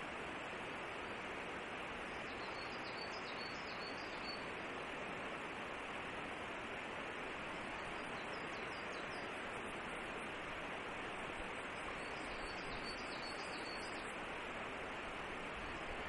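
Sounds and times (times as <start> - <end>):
forest background rushing: 0.0 - 16.0.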